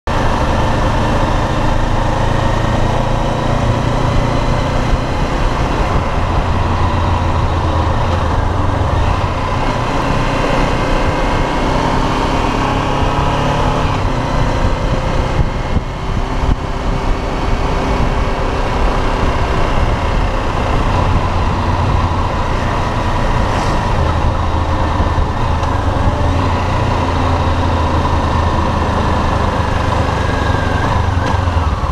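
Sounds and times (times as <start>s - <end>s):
road and wind noise: 0.0s - 31.9s
motorcycle engine running: 0.1s - 31.9s.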